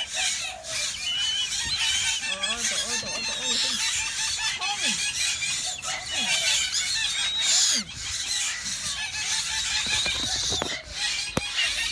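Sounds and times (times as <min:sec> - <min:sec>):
birds chirping busily: 0:00.0 - 0:11.9
lower falling bird calls: 0:00.0 - 0:11.9.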